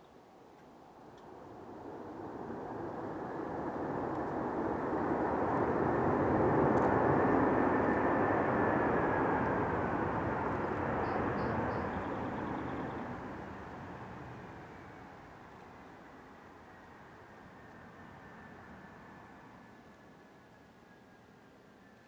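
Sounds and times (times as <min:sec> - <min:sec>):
jet engines roaring: 0:01.2 - 0:20.0.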